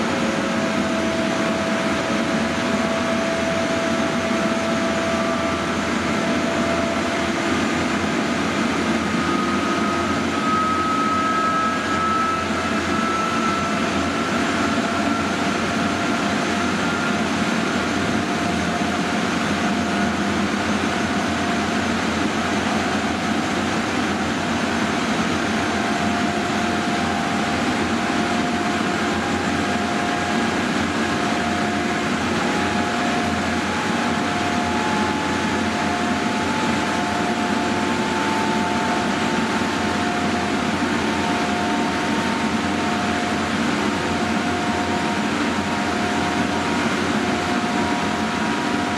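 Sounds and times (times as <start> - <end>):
traction equipment and fans rushing: 0.0 - 48.9.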